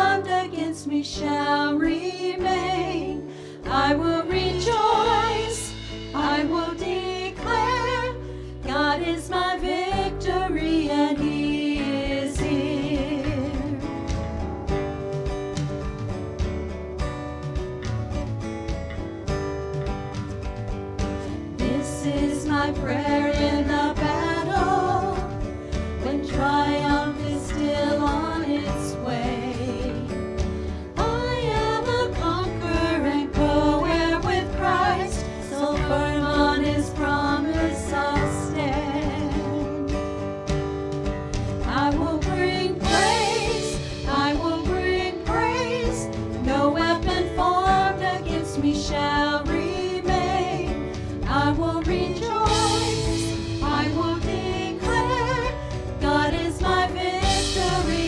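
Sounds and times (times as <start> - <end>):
women singing together: 0.0 - 13.9, 21.5 - 30.2, 30.9 - 40.0, 41.6 - 58.0
electric bass: 0.0 - 58.0
strummed acoustic guitar: 0.0 - 58.0
drum kit: 1.2 - 58.0.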